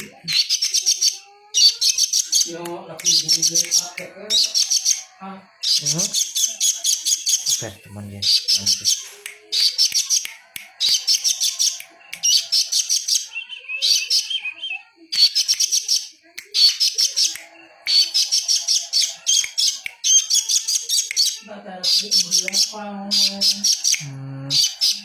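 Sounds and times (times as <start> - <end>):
songbird chattering: 0.0 - 25.0.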